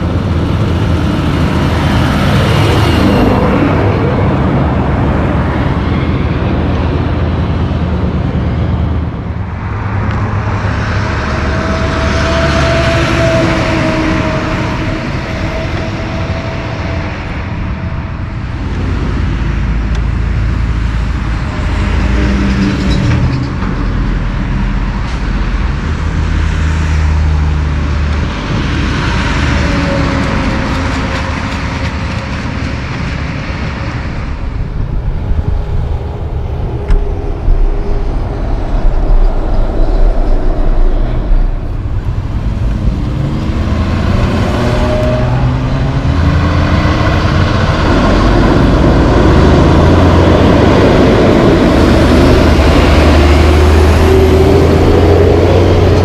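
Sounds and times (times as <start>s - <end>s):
trucks and cars passing: 0.0s - 56.0s.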